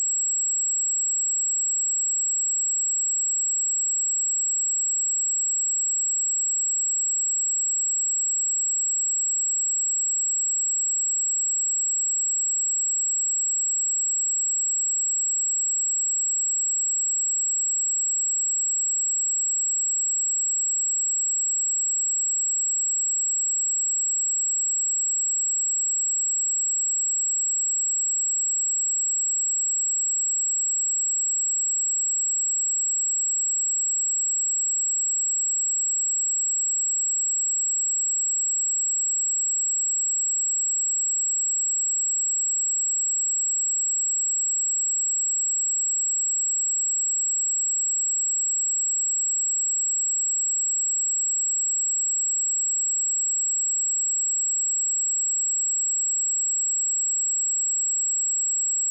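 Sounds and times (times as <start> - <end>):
high-pitched sine test tone: 0.0 - 58.9.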